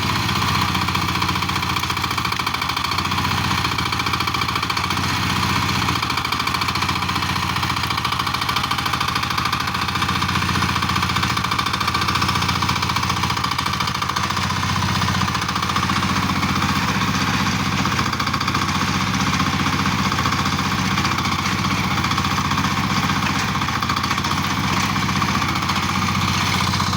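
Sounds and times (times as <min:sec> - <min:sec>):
small excavator engine running: 0:00.0 - 0:26.9.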